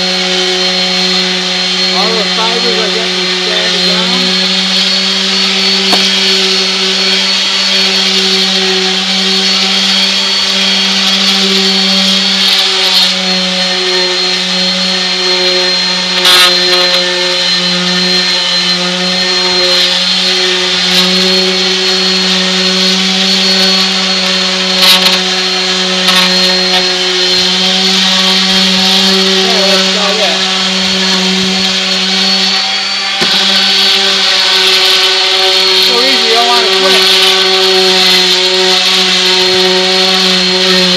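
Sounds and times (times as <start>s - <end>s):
orbital sander humming and whining: 0.0s - 40.9s.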